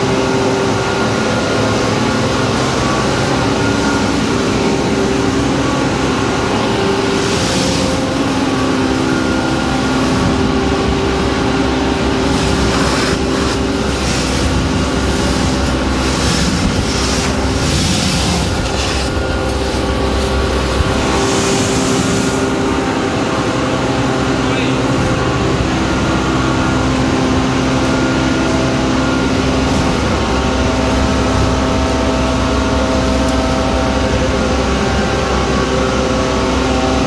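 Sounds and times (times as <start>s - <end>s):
vacuum truck machine drone: 0.0s - 37.0s.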